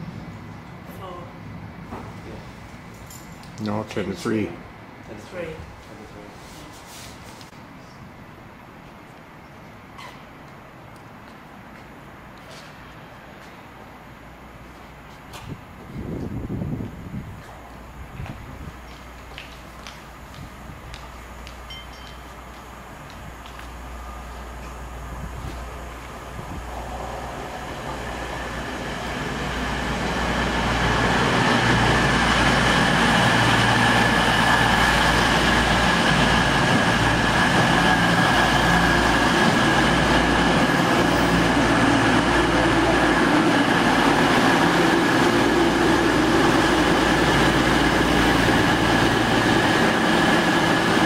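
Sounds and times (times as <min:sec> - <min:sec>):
diesel train high whine: 0:00.0 - 0:51.0.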